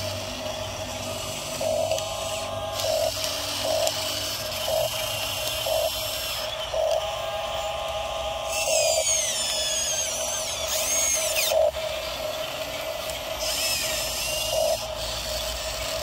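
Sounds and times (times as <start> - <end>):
electric motors whirring: 0.0 - 16.0
regular pulsing: 0.0 - 16.0.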